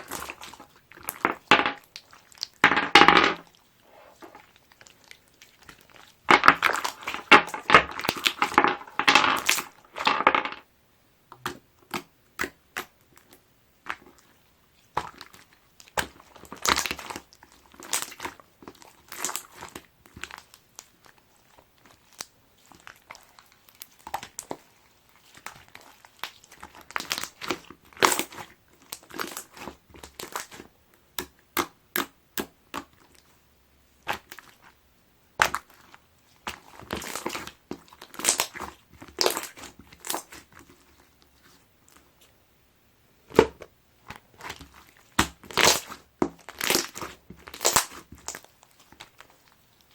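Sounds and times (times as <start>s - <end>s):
slime crackling and popping: 0.0s - 3.6s, 4.3s - 10.1s, 11.4s - 33.3s, 34.0s - 34.8s, 35.4s - 42.1s, 44.0s - 49.9s.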